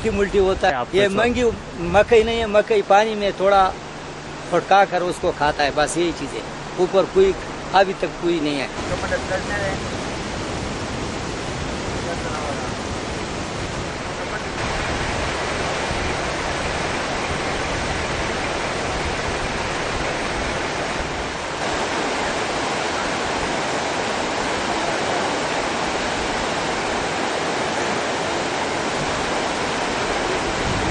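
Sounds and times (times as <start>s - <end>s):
fast-flowing water rushing: 0.0s - 30.9s.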